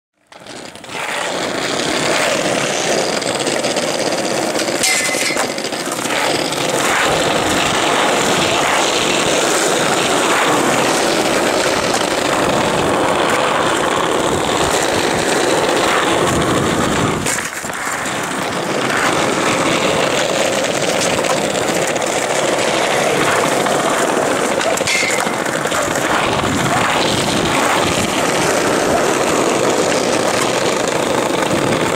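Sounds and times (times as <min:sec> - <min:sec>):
skateboard clacks: 0:00.2 - 0:31.9
skateboard wheels rolling on asphalt: 0:00.2 - 0:31.9.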